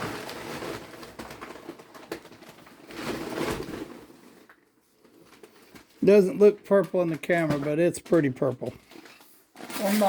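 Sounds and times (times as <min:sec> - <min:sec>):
garment and packaging rustling: 0:00.0 - 0:10.0.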